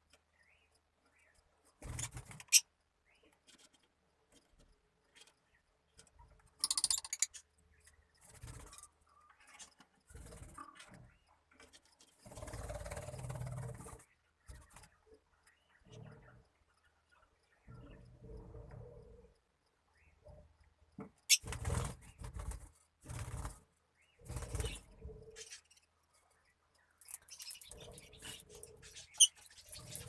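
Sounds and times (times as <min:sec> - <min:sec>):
birds moving in a cage: 0:00.0 - 0:30.0.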